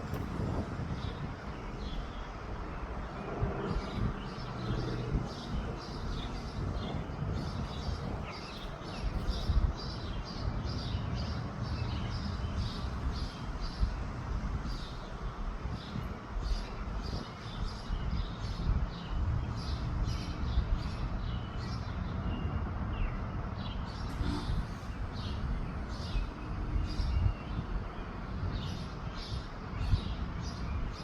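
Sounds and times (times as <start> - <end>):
wind on microphone: 0.0 - 31.0.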